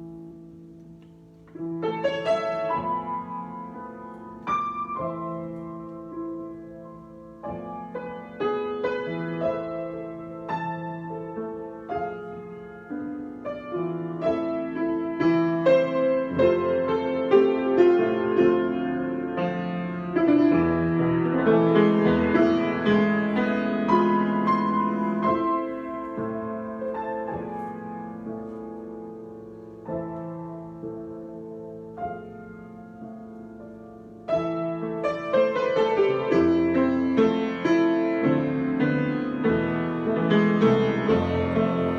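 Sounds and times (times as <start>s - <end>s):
solo piano: 0.0s - 41.9s.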